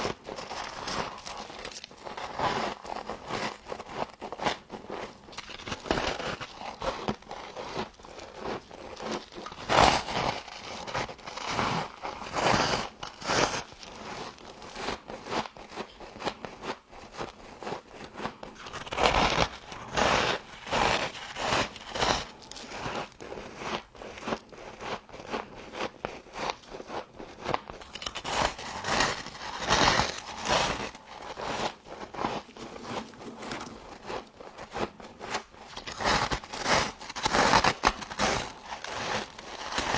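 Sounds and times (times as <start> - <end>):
frost being chewed with crunches: 0.0 - 39.9.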